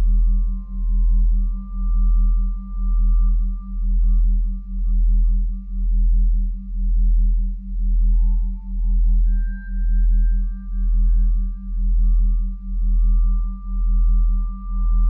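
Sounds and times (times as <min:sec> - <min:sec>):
deep droning hum: 0:00.0 - 0:15.0.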